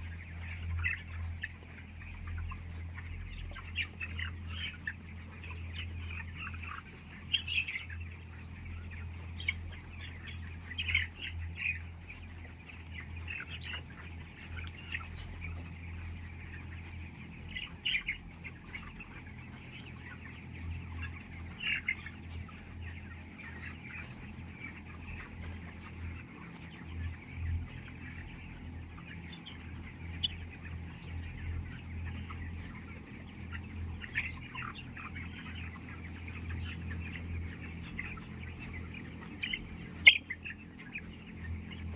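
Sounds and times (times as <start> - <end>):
chickens clucking and calling: 0.0 - 41.9
chickens squawking: 0.0 - 41.9.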